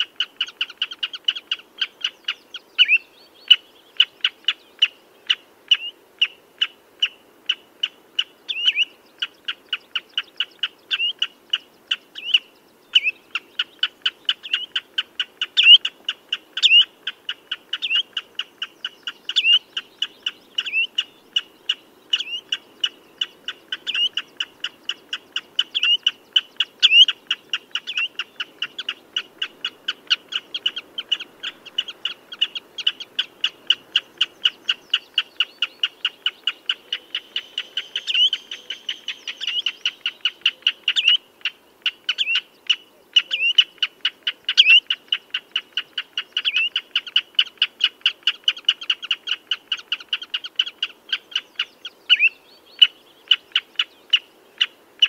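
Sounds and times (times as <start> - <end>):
bird piping calls: 0.0 - 55.0.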